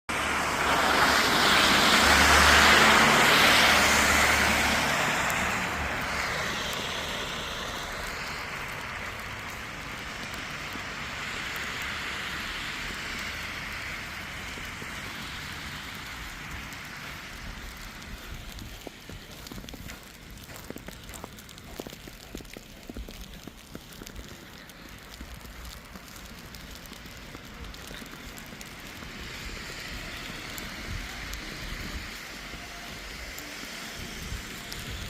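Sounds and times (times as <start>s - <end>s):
motor vehicle passing: 0.1s - 35.0s.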